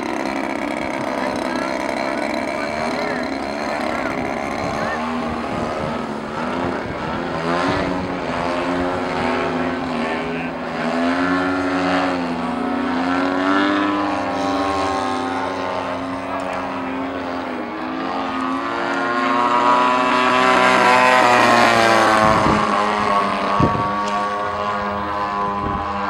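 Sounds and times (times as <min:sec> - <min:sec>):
model airplane engines buzzing: 0:00.0 - 0:26.0.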